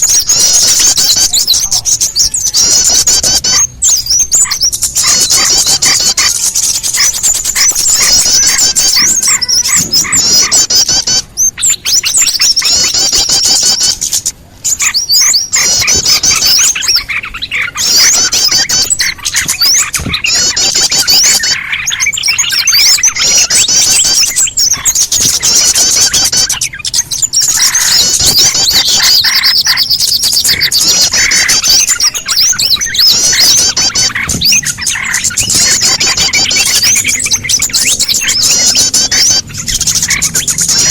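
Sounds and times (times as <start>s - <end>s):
small birds twittering and chirping: 0.0s - 40.9s.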